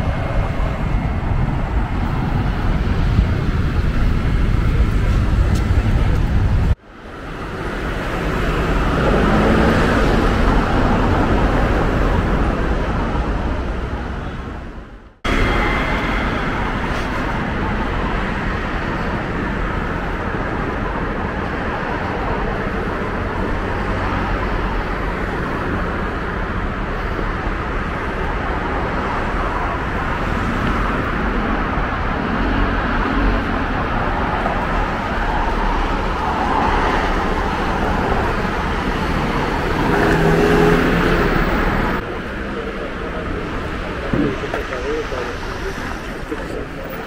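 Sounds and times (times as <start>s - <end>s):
city street traffic: 0.0s - 47.0s.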